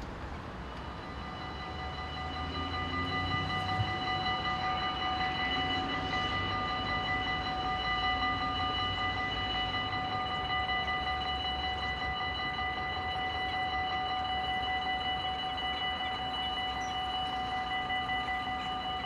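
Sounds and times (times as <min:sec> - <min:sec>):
level crossing warning bells: 0:00.0 - 0:19.0.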